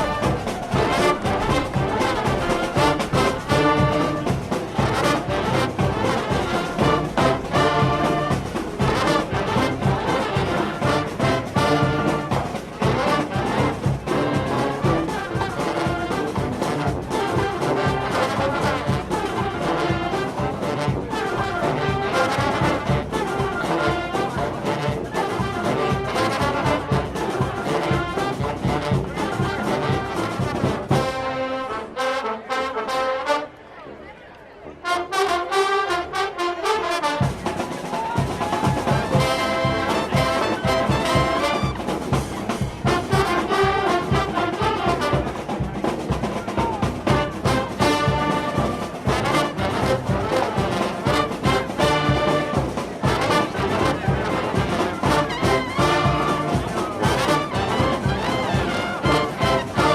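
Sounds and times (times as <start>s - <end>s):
brass instruments playing: 0.0s - 33.6s, 34.7s - 59.9s.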